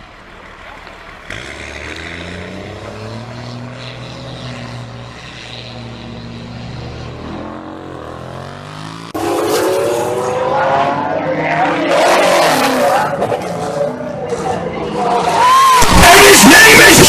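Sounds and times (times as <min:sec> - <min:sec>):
car engine droning: 0:00.0 - 0:17.0
car engine revving up: 0:00.2 - 0:17.0.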